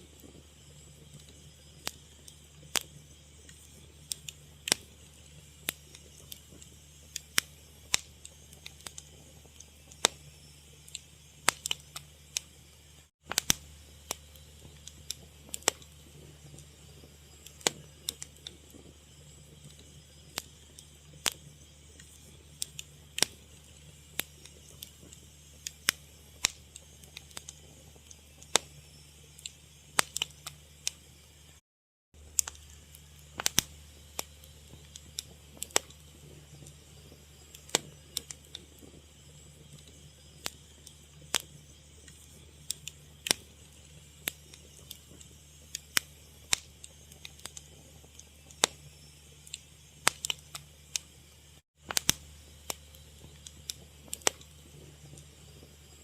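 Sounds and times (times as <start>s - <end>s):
wood fire crackling: 0.0s - 31.6s, 32.2s - 56.0s.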